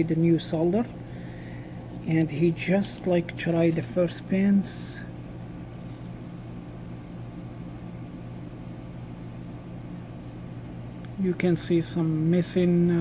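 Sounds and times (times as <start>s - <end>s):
fan running: 0.0s - 13.0s.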